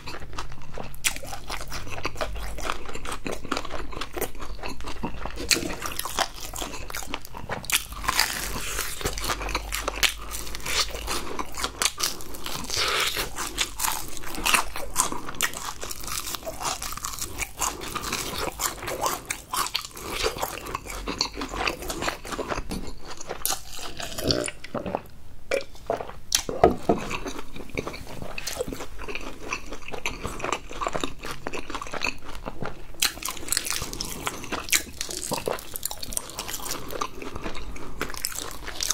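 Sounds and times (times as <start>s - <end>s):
crunching and chewing fried chicken: 0.0s - 38.9s.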